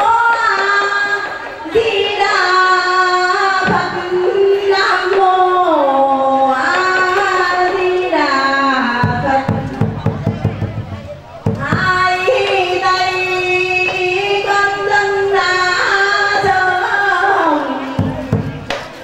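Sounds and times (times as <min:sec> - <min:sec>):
woman singing a slow chant: 0:00.0 - 0:09.8, 0:11.6 - 0:18.2.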